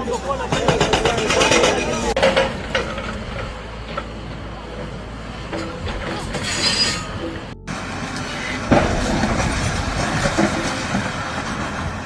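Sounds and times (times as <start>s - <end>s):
bulldozer clanking and rumbling: 0.0s - 12.0s.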